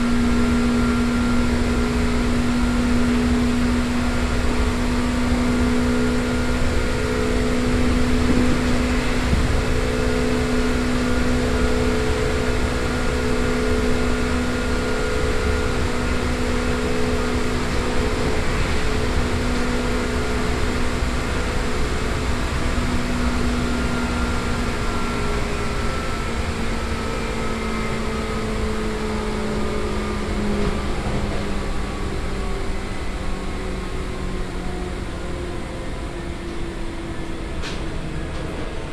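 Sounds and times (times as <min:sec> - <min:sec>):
train traction motor hum: 0:00.0 - 0:38.9
wheel and rail rumble: 0:00.0 - 0:38.9.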